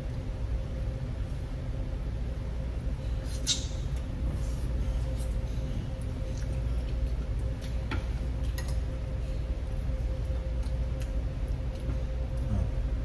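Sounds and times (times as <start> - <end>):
restaurant dining room hum: 0.0 - 13.0.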